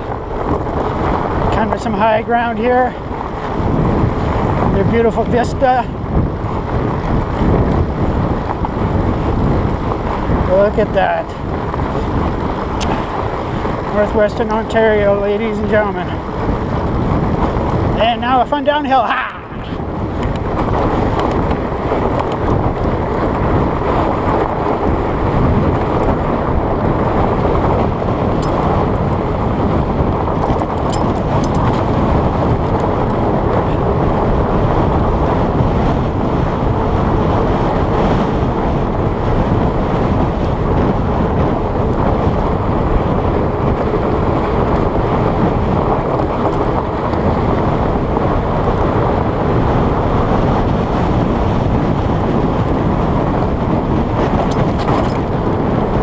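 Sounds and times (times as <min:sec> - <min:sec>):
bike tyres rolling on gravel: 0:00.0 - 0:56.0
wind rushing over microphone: 0:00.0 - 0:56.0.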